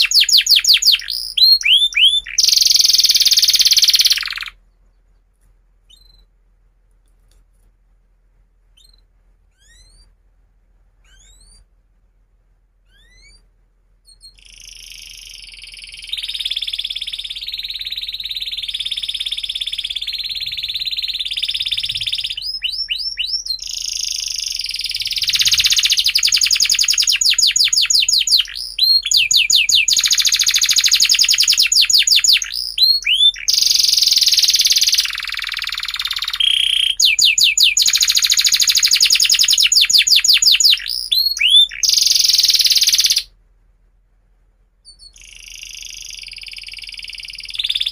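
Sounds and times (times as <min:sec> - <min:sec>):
canary singing trills: 0:00.0 - 0:05.2, 0:05.9 - 0:06.3, 0:08.8 - 0:10.2, 0:11.0 - 0:11.7, 0:12.8 - 0:43.3, 0:44.8 - 0:47.9.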